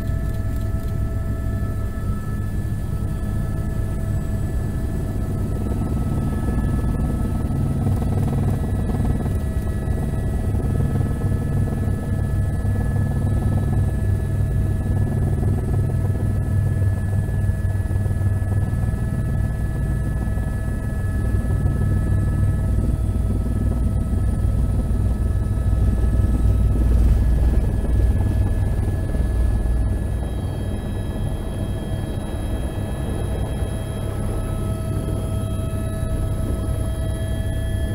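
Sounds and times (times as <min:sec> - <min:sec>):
helicopter engine whine: 0:00.0 - 0:37.9
helicopter rotor rumble: 0:00.0 - 0:37.9.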